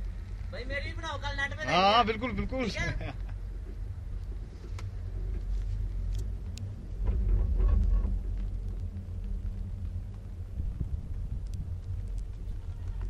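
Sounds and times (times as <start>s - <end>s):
chair lift rumble and hum: 2.4s - 13.0s.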